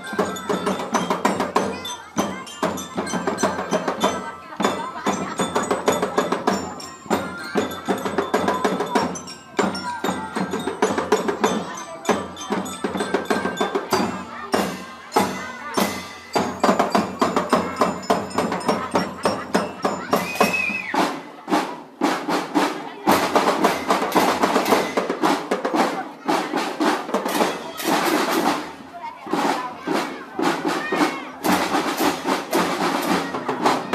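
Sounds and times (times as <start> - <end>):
drums beating marching rhythm: 0.0 - 33.9.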